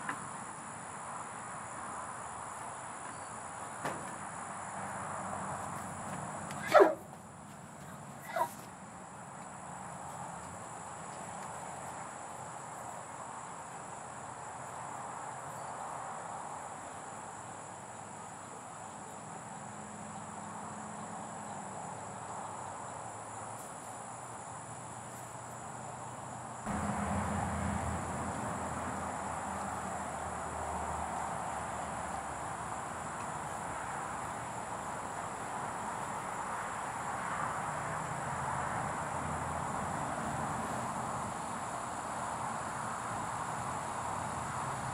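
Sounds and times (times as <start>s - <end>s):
crickets trilling: 0.0s - 44.9s
soft outdoor hiss: 0.0s - 44.9s.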